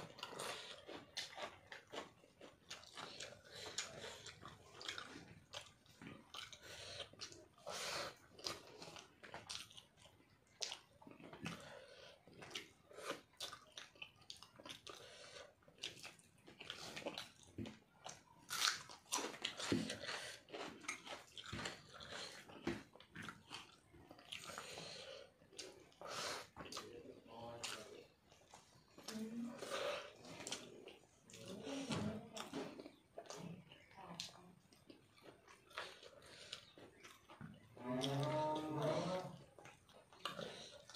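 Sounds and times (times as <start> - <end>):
person chewing with mouth clicks: 0.0 - 40.9.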